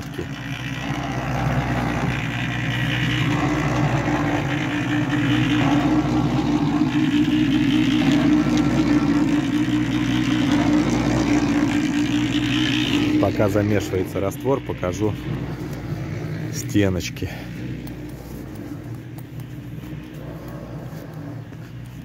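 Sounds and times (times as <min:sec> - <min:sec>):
concrete mixer motor hum: 0:00.0 - 0:22.0
mortar churning in rotating drum: 0:00.0 - 0:22.0.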